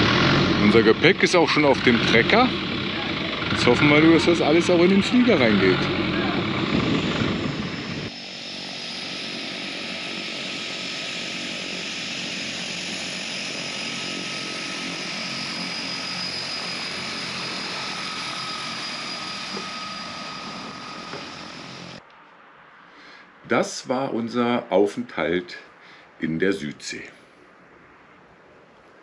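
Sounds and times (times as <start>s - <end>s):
turboprop engines roaring and whining: 0.0s - 24.3s.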